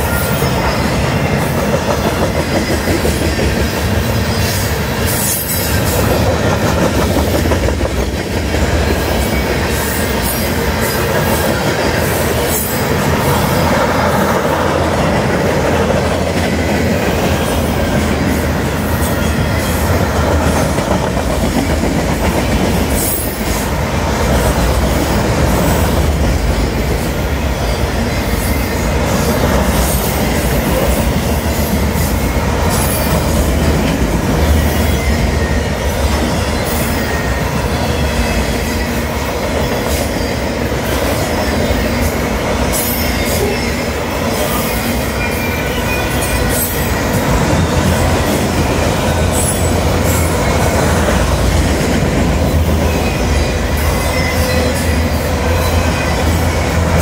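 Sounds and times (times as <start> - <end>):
train wheel clacks: 0.0 - 57.0
train wheels rumbling on rails: 0.0 - 57.0.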